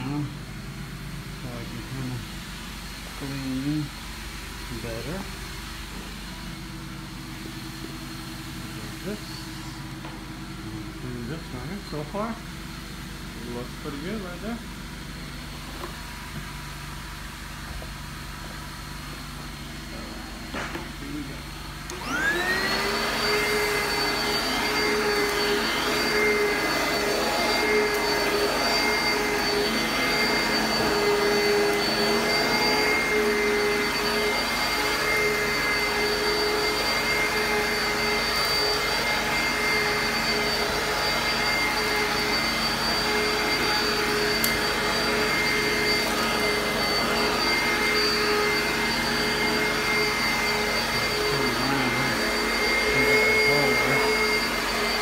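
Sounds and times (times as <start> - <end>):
upright vacuum cleaner running: 0.0 - 55.0.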